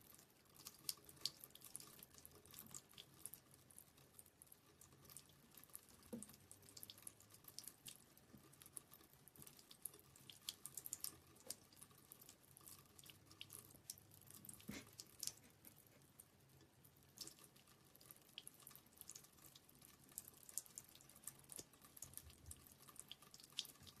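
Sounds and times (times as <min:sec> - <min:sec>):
cat lapping water: 0:00.0 - 0:24.0
faucet trickling and dripping: 0:00.0 - 0:24.0.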